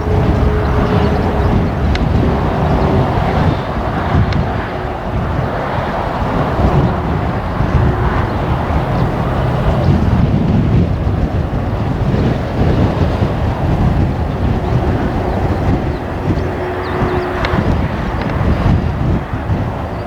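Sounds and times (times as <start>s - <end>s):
jet engines rumbling: 0.0s - 20.0s
wind buffeting microphone: 0.0s - 20.0s.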